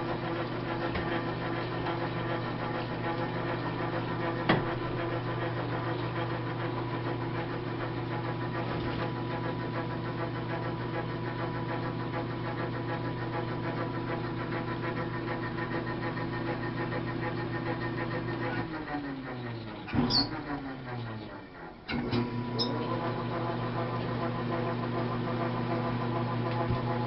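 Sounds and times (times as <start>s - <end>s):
lathe motor humming: 0.0s - 21.6s, 22.2s - 27.0s.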